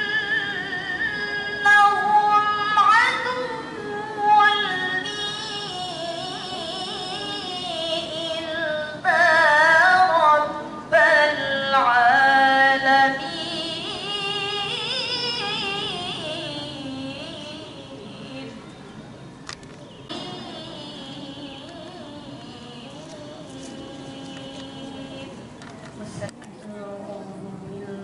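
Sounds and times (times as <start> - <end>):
woman chanting melodically: 0.0 - 19.0, 20.1 - 28.0.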